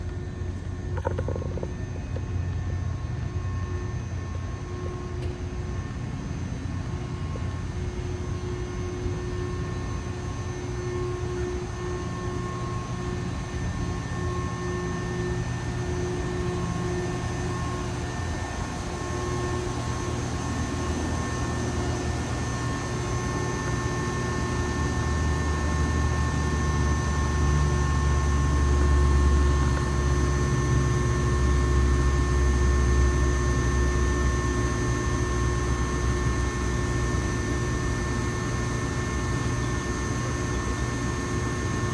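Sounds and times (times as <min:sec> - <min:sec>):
electrical boxes humming: 0:00.0 - 0:41.9.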